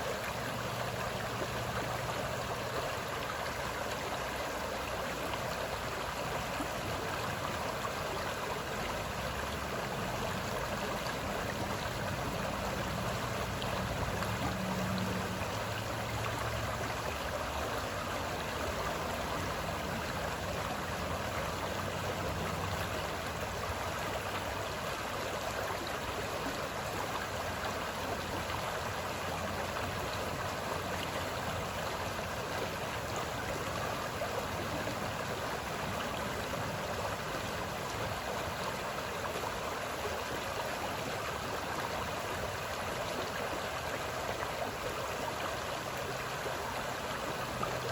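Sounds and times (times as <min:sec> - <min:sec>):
moving water washing: 0:00.0 - 0:47.9.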